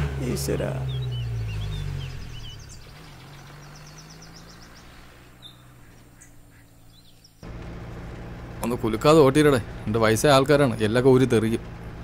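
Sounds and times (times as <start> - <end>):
birds calling: 0.0 - 12.0
steady engine drone: 0.0 - 12.0
vehicle engine driving away: 0.0 - 12.0.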